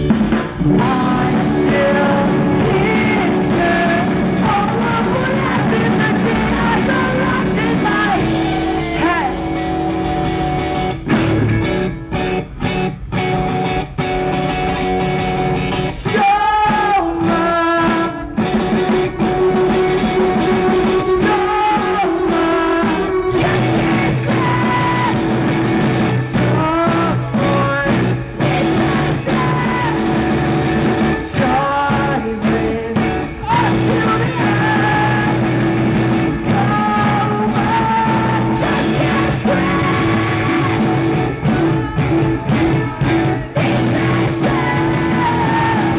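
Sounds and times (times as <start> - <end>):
man singing: 0.0 - 9.9, 15.8 - 18.6, 19.4 - 45.9
choppy guitar hits: 0.0 - 45.9
rock band playing: 0.0 - 45.9.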